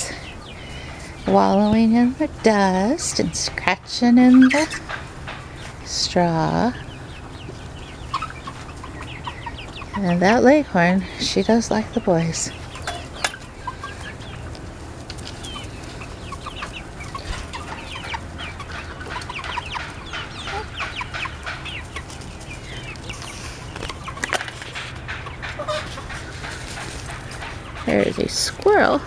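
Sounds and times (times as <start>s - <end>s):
young chickens clucking and chirping: 0.0s - 29.0s.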